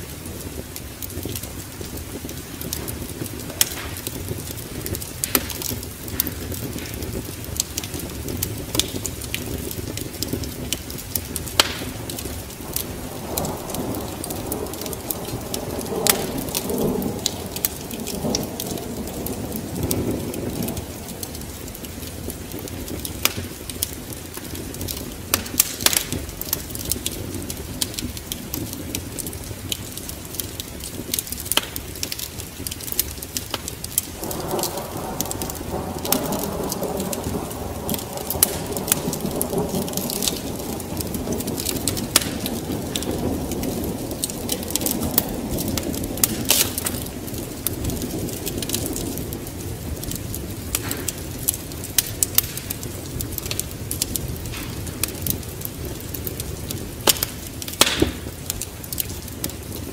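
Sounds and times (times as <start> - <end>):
rain hissing: 0.0 - 59.9
rolling thunder: 0.0 - 59.9
wood fire crackling and popping: 0.0 - 59.9.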